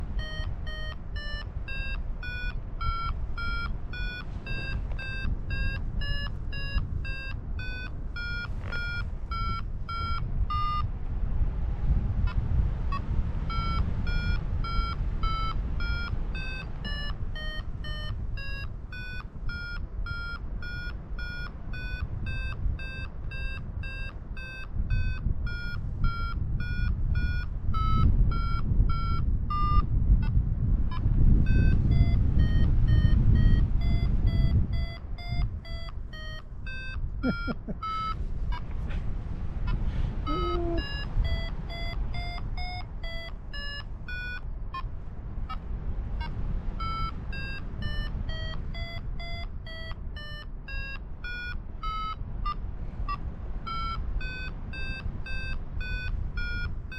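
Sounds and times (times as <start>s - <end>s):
variometer beeping: 0.0s - 11.0s, 12.0s - 38.9s, 39.6s - 56.9s
wind rushing on microphone: 0.0s - 56.9s.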